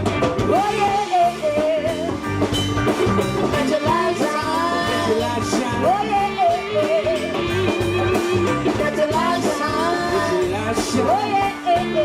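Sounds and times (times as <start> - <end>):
bass: 0.0 - 12.0
drums: 0.0 - 12.0
guitar: 0.0 - 12.0.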